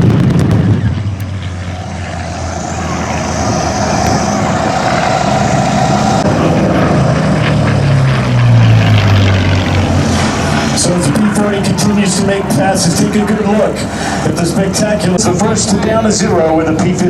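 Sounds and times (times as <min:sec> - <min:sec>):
propeller plane engine passing: 0:00.0 - 0:17.0.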